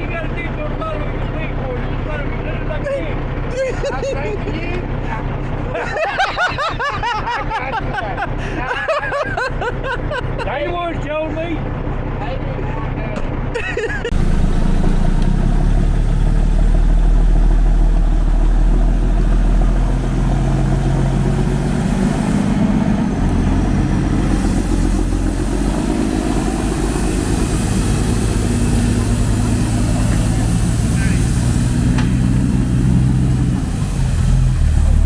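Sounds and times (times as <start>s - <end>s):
large engine running: 0.0s - 35.0s.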